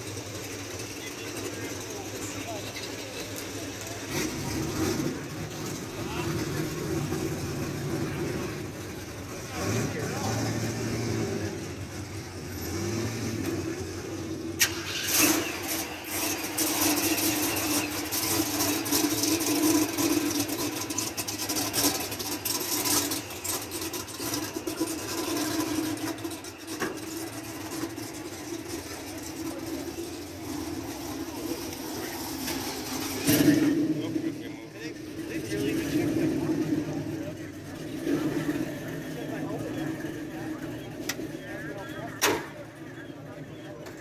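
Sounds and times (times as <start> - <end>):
car engine starting and running: 0.0 - 44.0.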